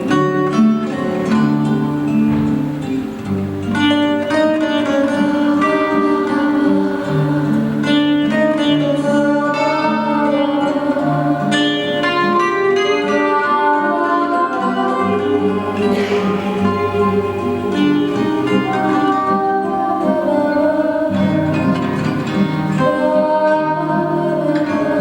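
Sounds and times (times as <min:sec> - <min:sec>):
held bass notes: 0:00.0 - 0:25.0
plucked string melody: 0:00.0 - 0:25.0.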